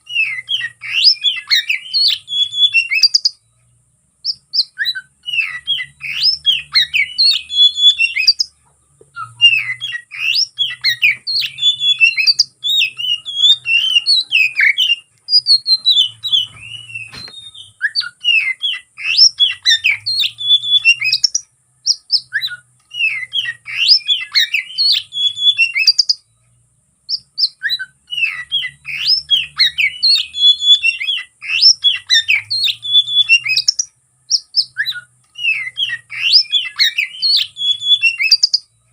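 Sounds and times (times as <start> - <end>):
songbird singing chirps and whistles: 0.0 - 38.9.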